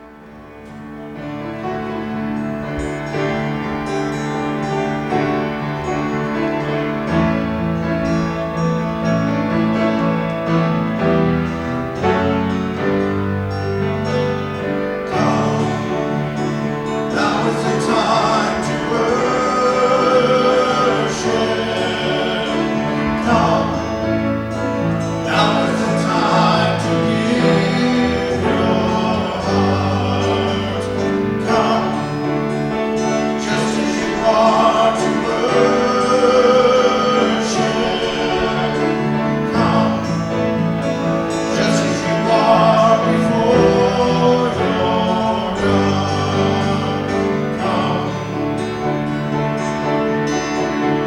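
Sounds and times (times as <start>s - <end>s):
guitar: 0.0s - 51.0s
piano: 0.0s - 51.0s
several voices singing: 2.7s - 51.0s.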